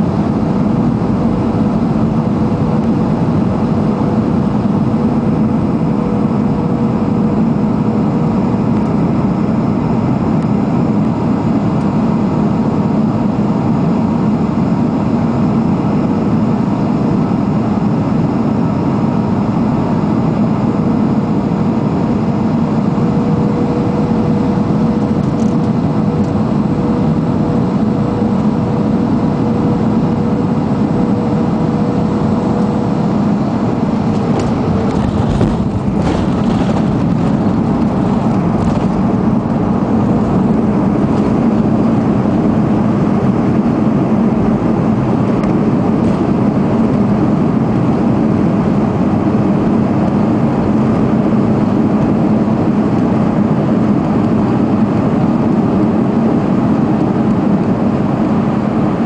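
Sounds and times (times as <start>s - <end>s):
jet engines and rushing air roar: 0.0s - 59.0s
steady whine: 0.0s - 59.0s.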